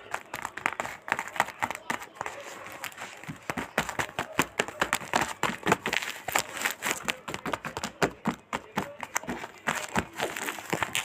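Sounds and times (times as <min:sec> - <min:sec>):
plastic packaging crinkling: 0:00.0 - 0:07.6, 0:09.0 - 0:11.0.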